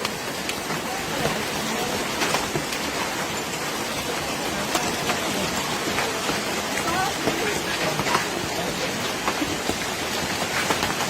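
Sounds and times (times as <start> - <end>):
hailstones striking hard surfaces: 0.0 - 11.0
heavy rain hissing: 0.0 - 11.0.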